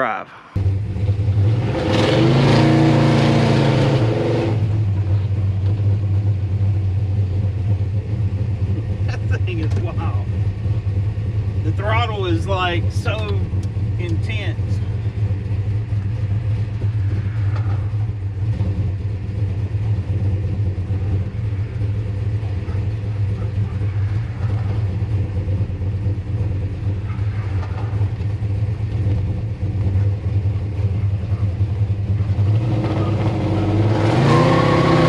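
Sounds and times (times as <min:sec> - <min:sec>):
engine idling with low rumble: 0:03.8 - 0:33.9.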